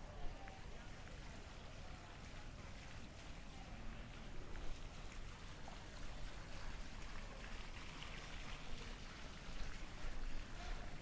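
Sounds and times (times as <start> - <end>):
water trickling in fountain pool: 0.0 - 11.0.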